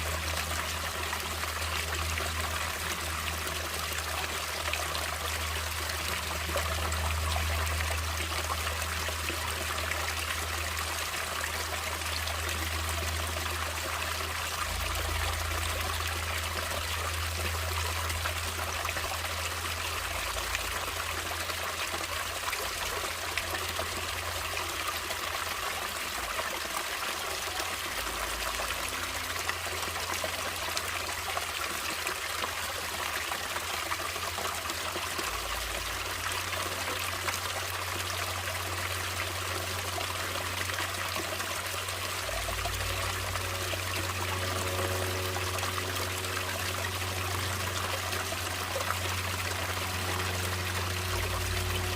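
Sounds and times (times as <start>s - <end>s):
stream water trickling: 0.0s - 51.9s.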